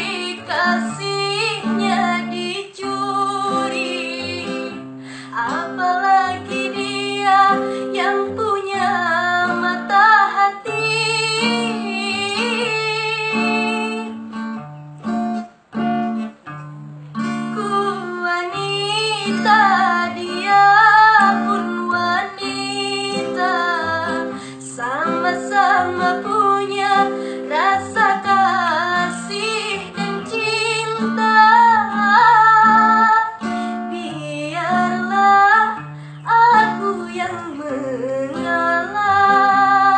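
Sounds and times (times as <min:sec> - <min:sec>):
woman singing with vibrato: 0:00.0 - 0:14.4, 0:17.4 - 0:39.9
acoustic guitar: 0:00.0 - 0:39.9.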